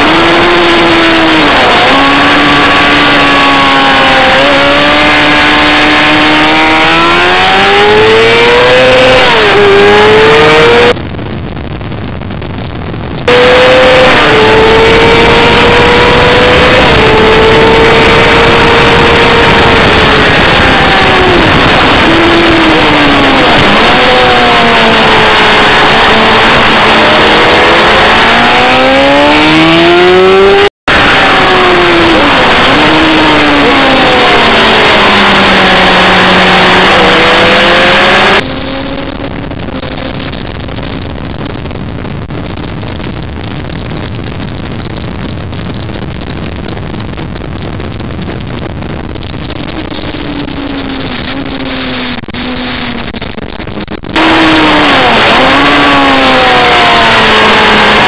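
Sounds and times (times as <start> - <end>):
racing engine accelerating: 0.0 - 11.0, 13.2 - 41.0, 49.4 - 58.0.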